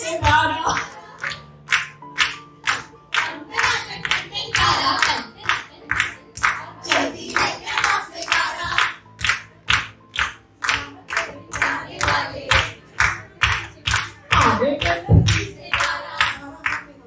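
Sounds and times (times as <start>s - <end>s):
women singing together: 0.0s - 1.4s, 3.1s - 9.0s, 10.6s - 17.0s
hands clapping: 0.3s - 16.9s.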